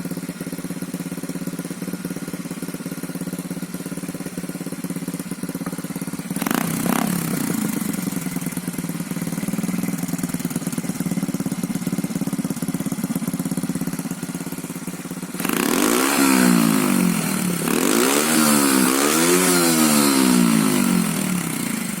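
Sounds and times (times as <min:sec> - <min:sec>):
minibike engine idling and revving: 0:00.0 - 0:22.0.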